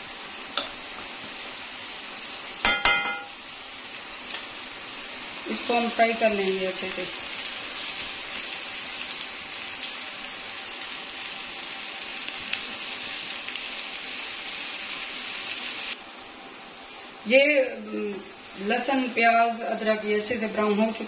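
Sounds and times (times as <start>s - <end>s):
paste sizzling in hot oil: 0.0s - 17.1s.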